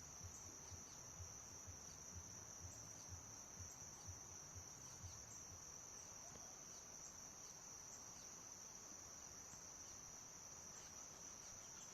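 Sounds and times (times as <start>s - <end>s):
high-pitched insect trill: 0.0s - 11.9s.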